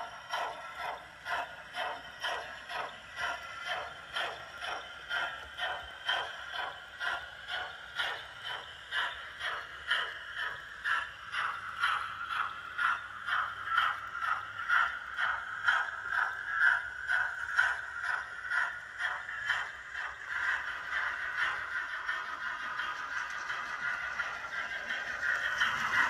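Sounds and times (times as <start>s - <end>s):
steam locomotive exhaust chuffs: 0.0s - 26.0s.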